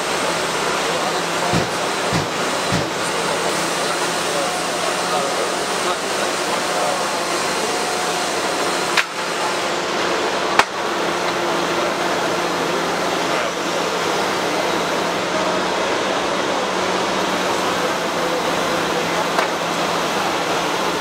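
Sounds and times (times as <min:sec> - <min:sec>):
machine noise with low hum: 0:00.0 - 0:21.0.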